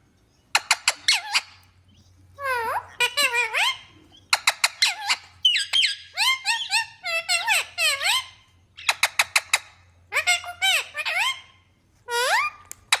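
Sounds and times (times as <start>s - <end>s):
parakeets chirping and squawking: 0.5s - 1.7s, 2.4s - 13.0s.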